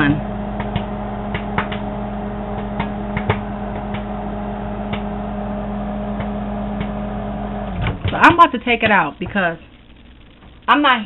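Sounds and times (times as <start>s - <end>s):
popcorn popping: 0.0s - 9.6s
microwave oven humming: 0.0s - 11.0s.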